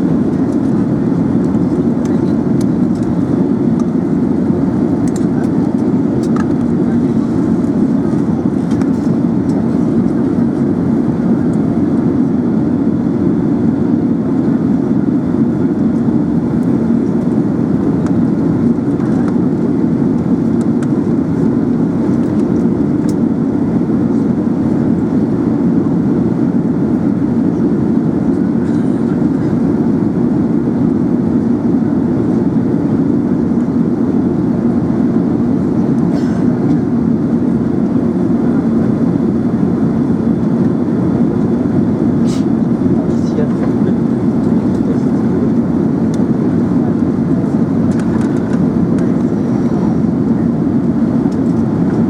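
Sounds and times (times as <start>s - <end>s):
airplane cabin roar: 0.0s - 52.0s.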